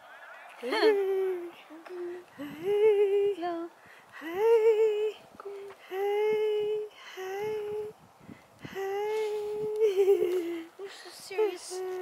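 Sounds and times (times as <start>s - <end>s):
woman singing lullaby-like tune: 0.6s - 8.0s, 8.6s - 12.0s.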